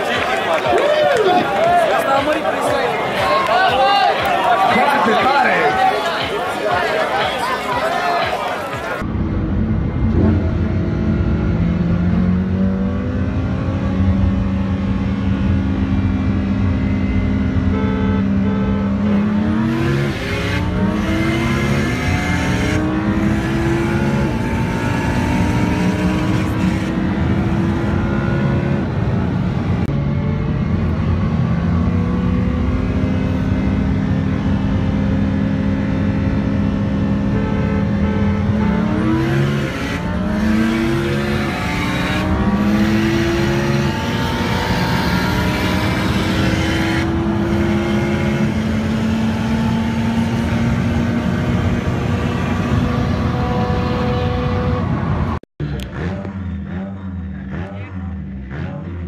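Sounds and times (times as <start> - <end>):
car engines at full throttle: 0.0 - 59.0
road noise: 0.0 - 59.0.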